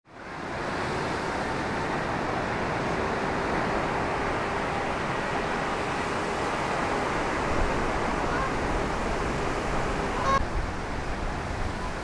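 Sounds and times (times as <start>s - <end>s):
lake surf: 0.1s - 12.0s
strong wind: 0.1s - 12.0s.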